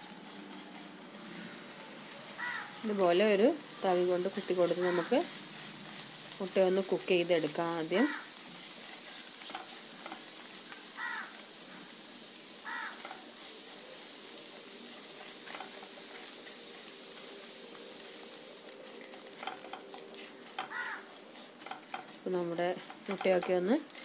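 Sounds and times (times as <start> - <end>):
eggs sizzling in a frying pan: 0.0 - 24.0
spatula scraping a pan: 4.0 - 11.5, 12.3 - 24.0.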